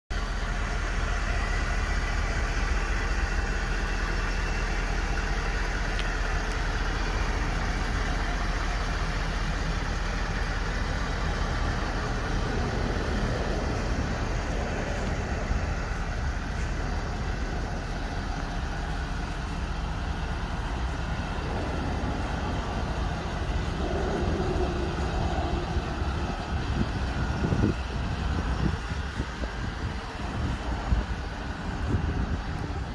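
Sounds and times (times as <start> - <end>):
pickup engine idling: 0.1 - 32.9.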